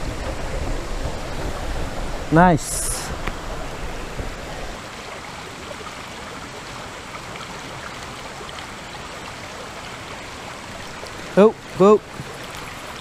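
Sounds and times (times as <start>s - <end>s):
creek rushing over rocks: 0.0s - 13.0s.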